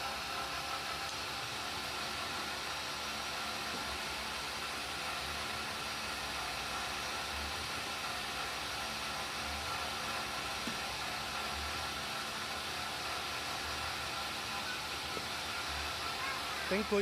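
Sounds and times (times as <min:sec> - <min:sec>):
cotton candy machine hissing: 0:00.0 - 0:17.0
faint steady whine: 0:00.0 - 0:17.0.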